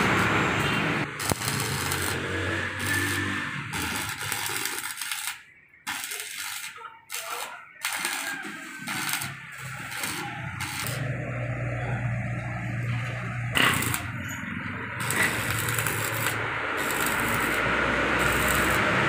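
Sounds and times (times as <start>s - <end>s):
welding arc crackling: 0.0s - 11.7s, 13.0s - 19.0s
welding machine hum: 0.0s - 19.0s.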